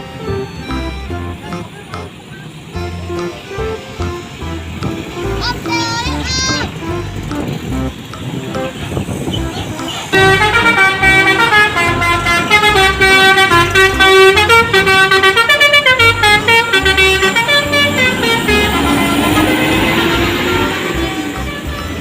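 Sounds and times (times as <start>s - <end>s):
multi-tone bus horn melody: 0.0s - 22.0s.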